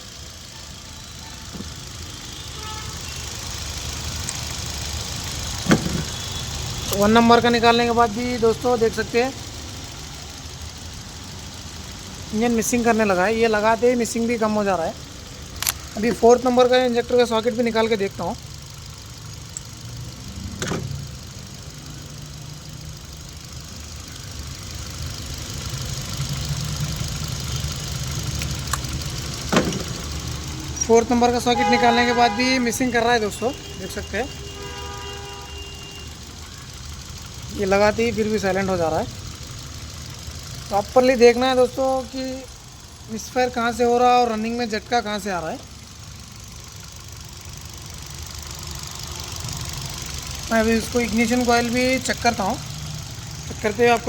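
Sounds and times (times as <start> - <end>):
car engine idling unevenly: 0.0 - 54.0.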